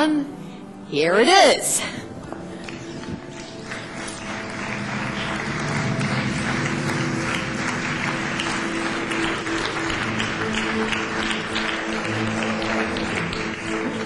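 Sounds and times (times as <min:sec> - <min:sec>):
background music with low tones: 0:00.0 - 0:14.0
audience applauding: 0:02.6 - 0:14.0.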